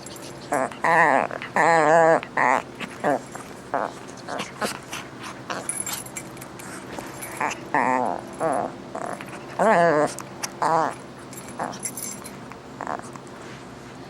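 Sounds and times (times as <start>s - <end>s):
dog whining: 0.0s - 6.3s, 6.9s - 13.3s.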